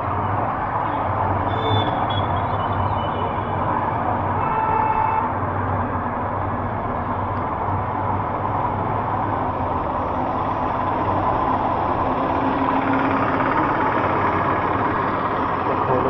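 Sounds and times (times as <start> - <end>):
road noise: 0.0 - 16.0
vehicle engine hum: 0.0 - 16.0.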